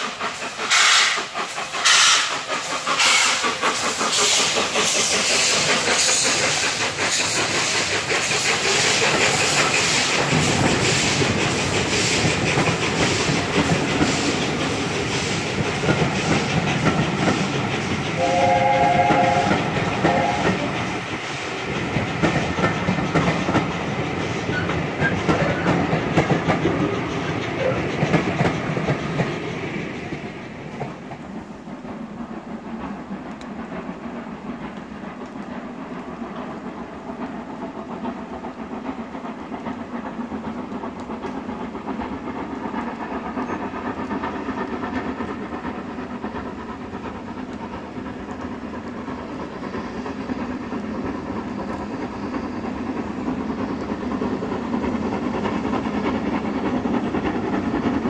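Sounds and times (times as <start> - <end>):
distant train noise: 0.0 - 58.0
railway coaches clattering: 0.0 - 58.0.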